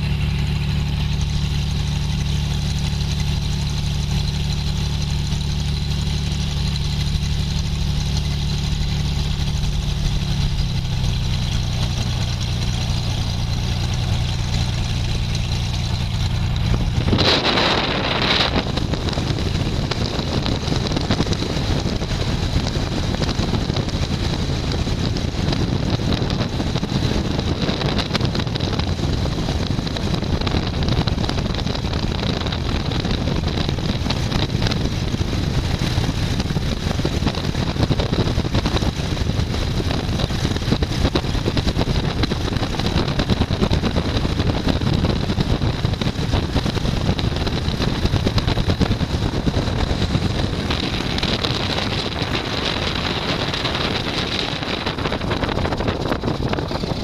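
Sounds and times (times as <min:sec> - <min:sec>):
airplane engine and propeller drone: 0:00.0 - 0:57.0
rush of noise: 0:00.0 - 0:57.0.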